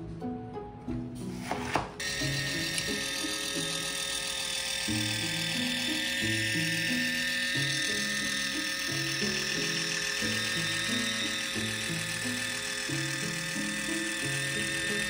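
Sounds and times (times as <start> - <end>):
background music: 0.0 - 15.0
electric can opener motor whining: 1.6 - 15.0.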